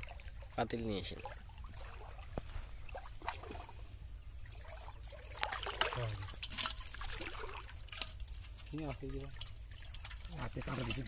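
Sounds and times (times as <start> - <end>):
muddy water sloshing: 0.0 - 11.0.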